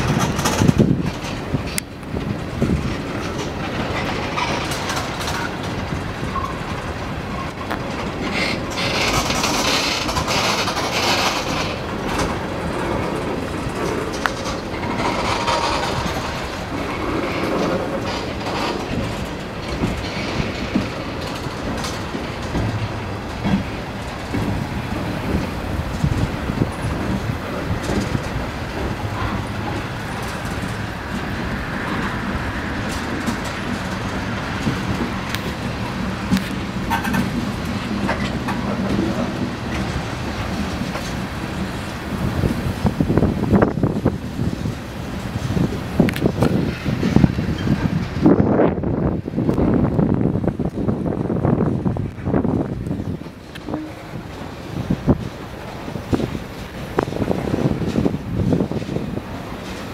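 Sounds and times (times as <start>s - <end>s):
steel wheels on rail: 0.0s - 59.9s
wheels clicking over rail joints: 0.0s - 59.9s.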